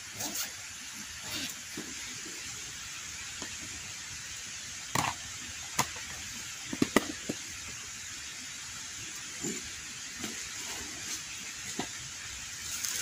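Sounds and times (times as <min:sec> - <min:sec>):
water hissing: 0:00.0 - 0:13.0.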